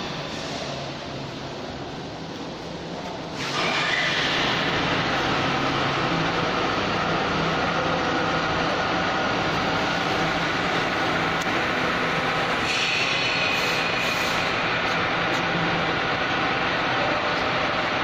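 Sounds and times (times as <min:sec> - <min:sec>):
factory machinery hum: 0:00.0 - 0:18.0.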